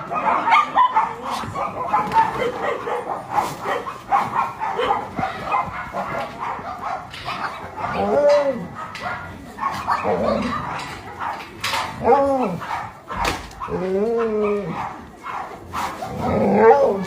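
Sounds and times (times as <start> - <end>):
dogs barking and yipping: 0.0 - 17.0
dog yelp: 0.1 - 17.0.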